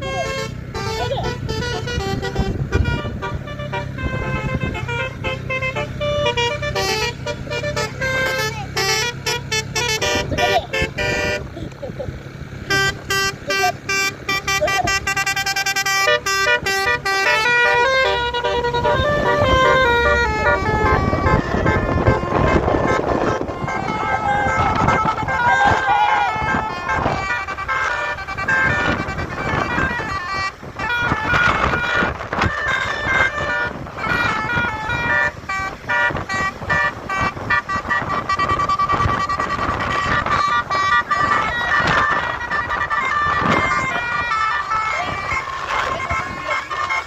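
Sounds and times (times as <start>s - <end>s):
bus musical horn tune: 0.0s - 47.0s.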